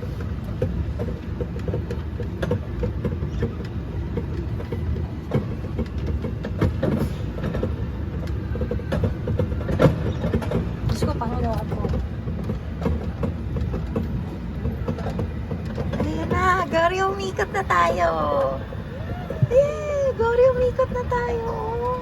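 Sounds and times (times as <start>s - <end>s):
carriages knocking and rattling: 0.0s - 22.0s
ride-on train rumbling: 0.0s - 22.0s.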